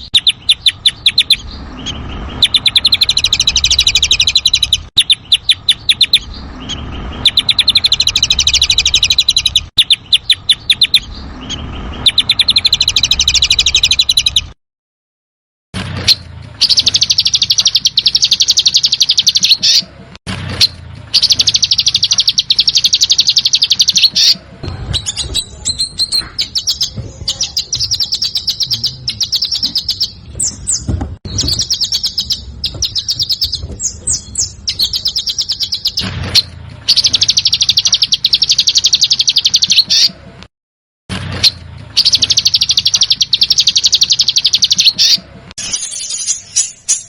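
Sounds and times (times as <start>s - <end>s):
songbird high-pitched trills: 0.0s - 14.6s, 16.1s - 19.9s, 20.6s - 40.1s, 41.4s - 47.0s.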